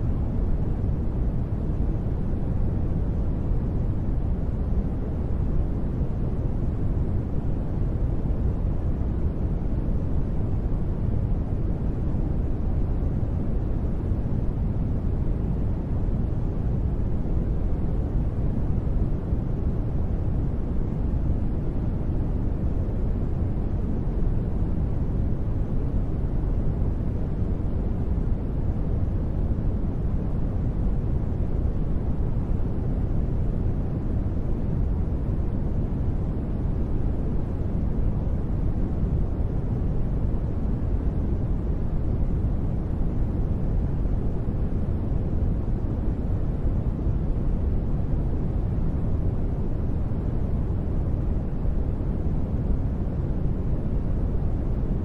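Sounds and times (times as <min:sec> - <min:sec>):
deep white noise: 0:00.0 - 0:55.0.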